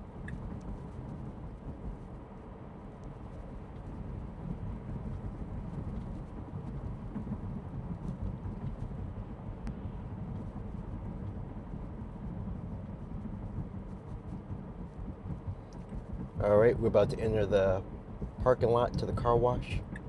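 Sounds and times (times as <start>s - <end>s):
road and tyre rumble in car: 0.0s - 20.0s.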